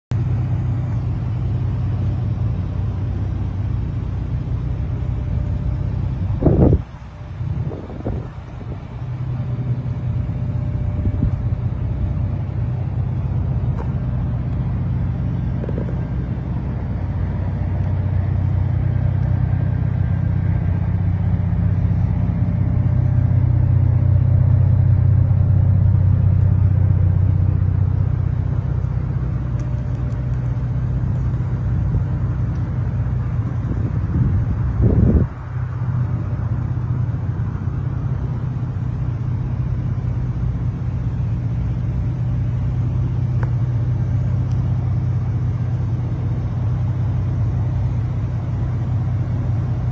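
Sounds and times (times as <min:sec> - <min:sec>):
pickup truck engine idling: 0:00.1 - 0:49.9.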